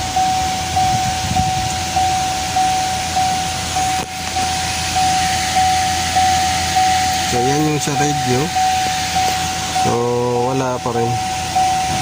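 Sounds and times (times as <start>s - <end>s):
electronic warning chime: 0.0s - 12.0s.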